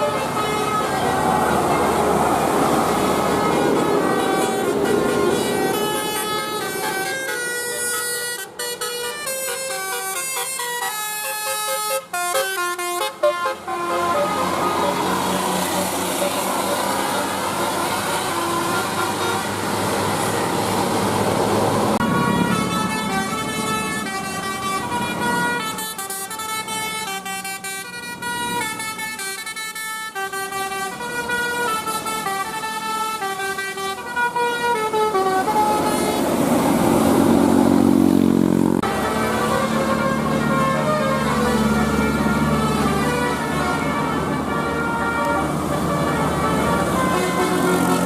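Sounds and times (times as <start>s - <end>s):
noisy vehicle sound: 0.0s - 48.0s.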